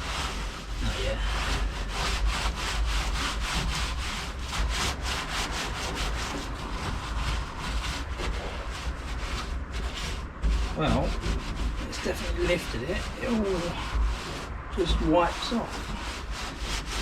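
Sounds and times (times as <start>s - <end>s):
rubbing on bare steel floor: 0.0s - 17.0s.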